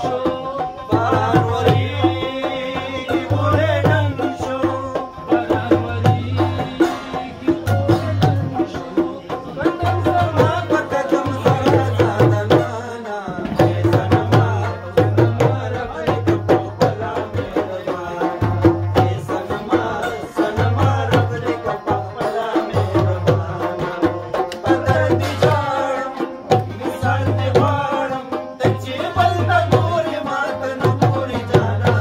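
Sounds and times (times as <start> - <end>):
hand drum fast rhythm: 0.0 - 32.0.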